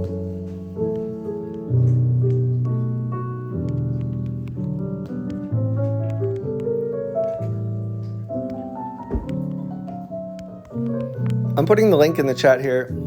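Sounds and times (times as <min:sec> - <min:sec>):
slow piano with sustained chords: 0:00.0 - 0:13.0.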